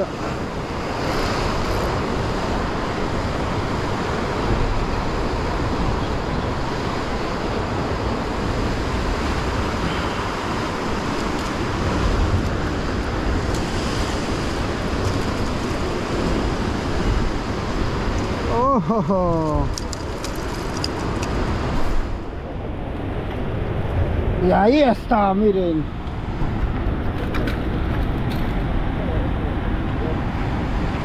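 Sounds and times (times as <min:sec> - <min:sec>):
ocean surf against rocks: 0:00.0 - 0:31.0
wind rumbling on microphone: 0:00.0 - 0:31.0.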